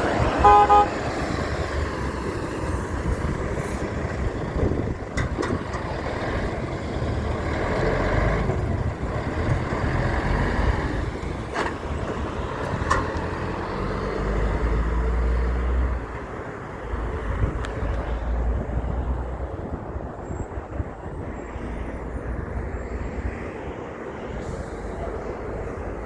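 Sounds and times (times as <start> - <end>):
heavy trucks passing: 0.0 - 26.0
road noise: 0.0 - 26.0.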